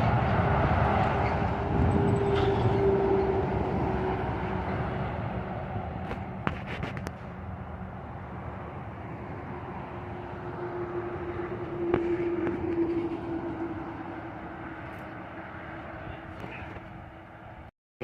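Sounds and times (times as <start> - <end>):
heavy truck engine and road noise: 0.0 - 17.7.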